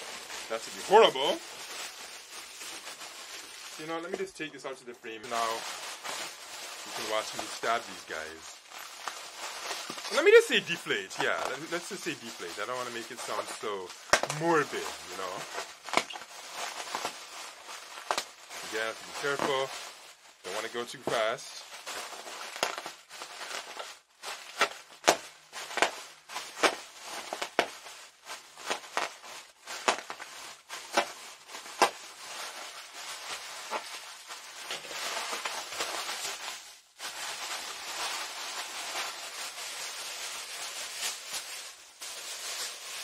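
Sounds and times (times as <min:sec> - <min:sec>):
plastic pouches crinkling: 0:00.0 - 0:43.0.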